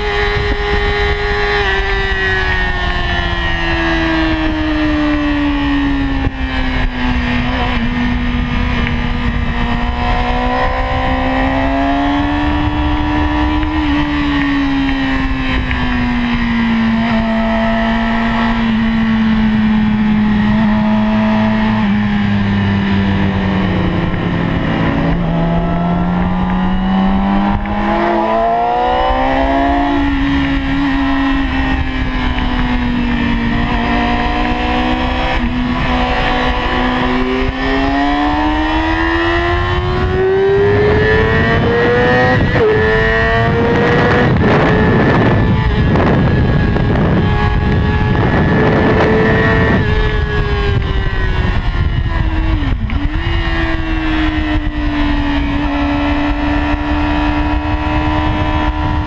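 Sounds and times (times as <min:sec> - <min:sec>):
motorcycle engine running hard: 0:00.0 - 0:59.0.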